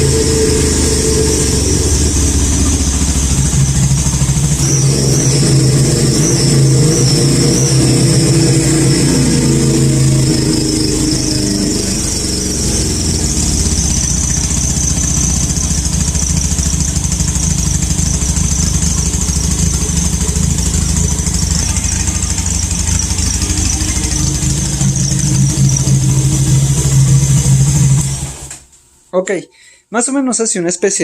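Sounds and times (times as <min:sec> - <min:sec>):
high-pitched exhaust whistle: 0:00.0 - 0:28.6
motorcycle engine running: 0:00.0 - 0:28.6.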